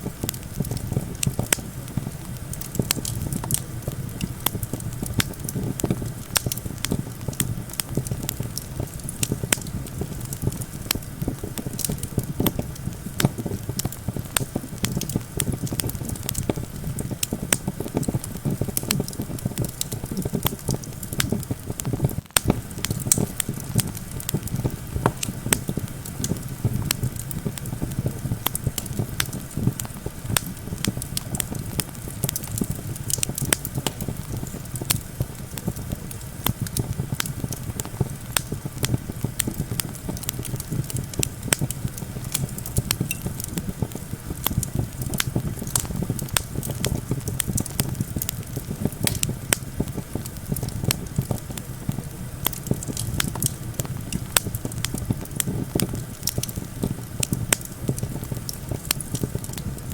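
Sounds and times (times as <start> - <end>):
campfire crackling and popping: 0.0 - 59.9
low rumble of wind: 0.0 - 59.9.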